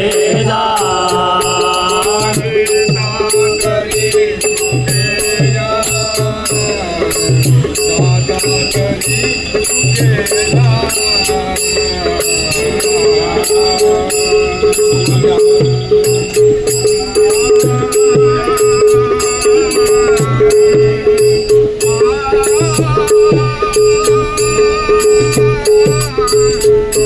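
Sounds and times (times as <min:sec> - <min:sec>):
devotional instrumental melody: 0:00.0 - 0:27.0
drum beat: 0:00.0 - 0:27.0
jingling hand percussion: 0:00.0 - 0:27.0
steady held drone: 0:00.0 - 0:27.0.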